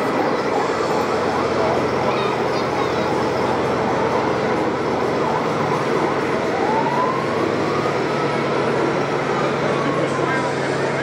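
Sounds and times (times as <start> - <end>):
siren wailing: 0.2 - 11.0.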